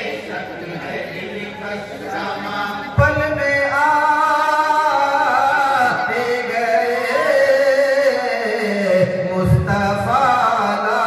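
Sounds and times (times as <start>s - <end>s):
men singing into microphones: 1.0s - 11.0s.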